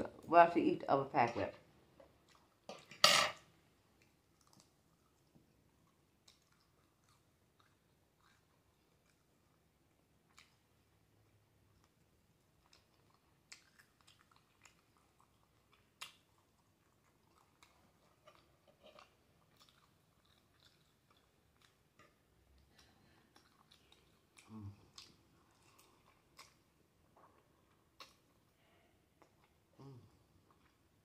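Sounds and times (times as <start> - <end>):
person chewing food: 1.9 - 3.0, 3.7 - 31.0.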